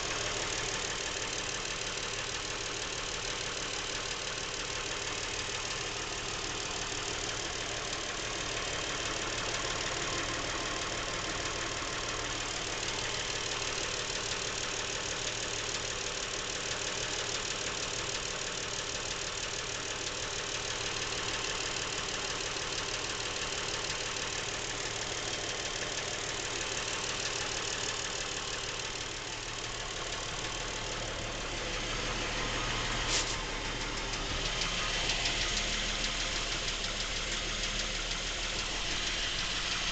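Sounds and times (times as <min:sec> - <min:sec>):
car engine idling: 0:00.0 - 0:39.9
rapid engine knocking: 0:00.1 - 0:39.9.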